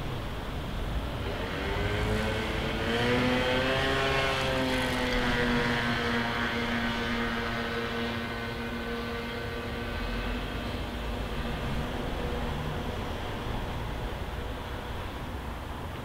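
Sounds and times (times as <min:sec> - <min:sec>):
engine hum: 0:00.0 - 0:16.0
cars driving past: 0:00.4 - 0:16.0.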